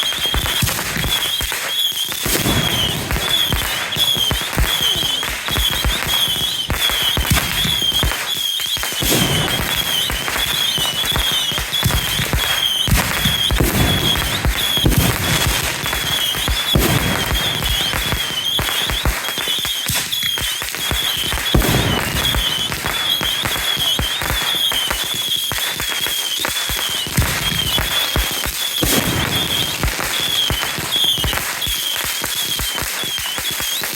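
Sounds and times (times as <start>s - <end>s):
fireworks popping and banging: 0.0s - 33.9s
high warbling firework whistle: 0.0s - 33.9s.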